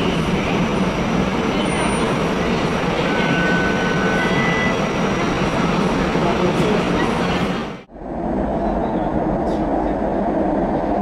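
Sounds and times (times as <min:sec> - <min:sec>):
streetcar rumbling: 0:00.0 - 0:11.0.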